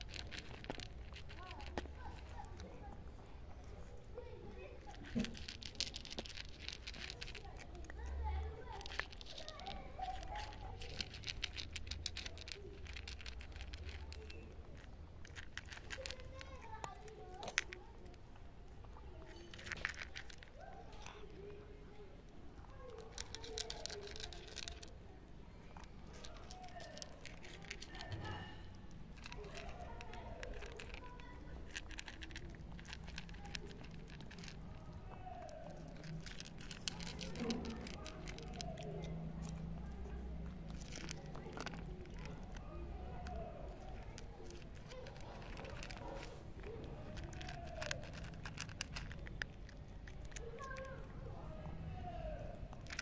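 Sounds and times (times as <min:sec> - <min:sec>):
cat crunching dry kibble: 0:00.0 - 0:53.0.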